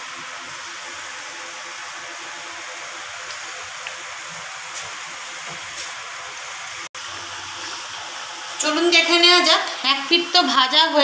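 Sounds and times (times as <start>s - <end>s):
batter sizzling in oil: 0.0s - 11.0s.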